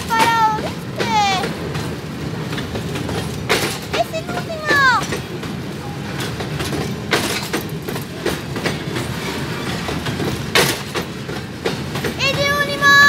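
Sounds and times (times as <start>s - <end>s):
freight train rolling rumble: 0.0s - 13.0s
wheels clacking on track: 0.0s - 13.0s.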